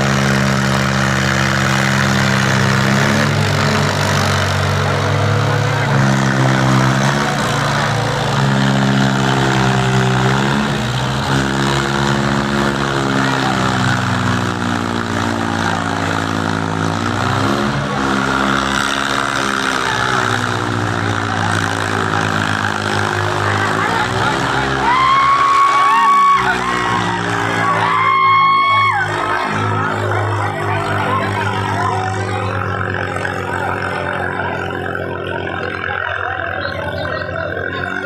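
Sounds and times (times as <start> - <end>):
diesel tractor engines under load: 0.0 - 38.0.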